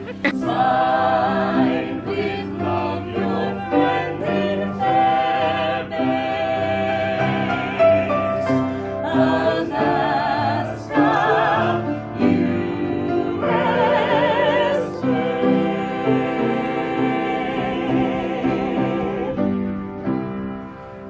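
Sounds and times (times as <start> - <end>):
group singing in harmony: 0.0 - 19.8
piano accompaniment: 0.0 - 21.0.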